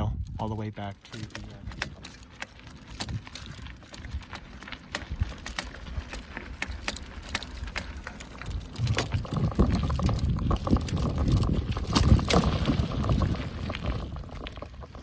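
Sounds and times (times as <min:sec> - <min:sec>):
crunches and rattles on rocky trail: 0:00.0 - 0:15.0.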